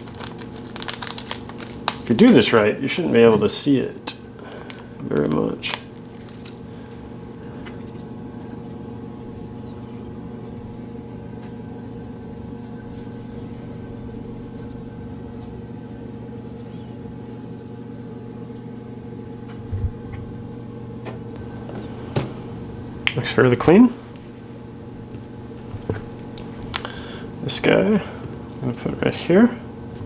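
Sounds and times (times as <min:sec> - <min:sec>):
machine hum: 0:00.0 - 0:30.0.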